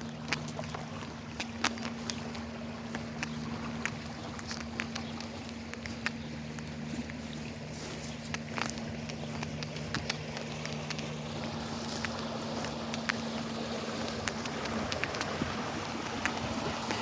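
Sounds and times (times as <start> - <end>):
low motor hum: 0.0 - 17.0
outdoor background hiss: 0.0 - 17.0
small clicks and ticks: 0.0 - 17.0.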